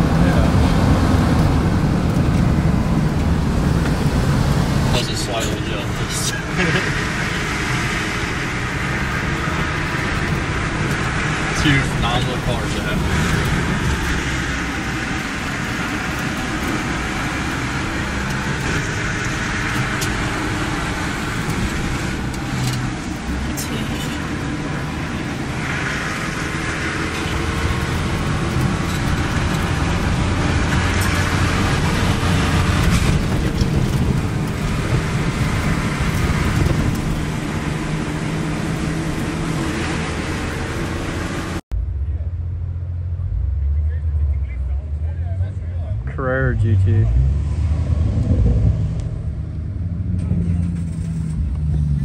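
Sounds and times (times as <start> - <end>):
engine drone: 0.0 - 52.0
tyre and road noise: 0.0 - 52.0.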